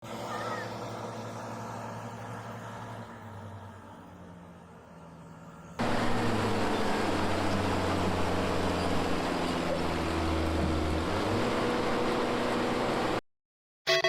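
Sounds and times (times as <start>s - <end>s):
large engine humming: 0.0s - 13.2s.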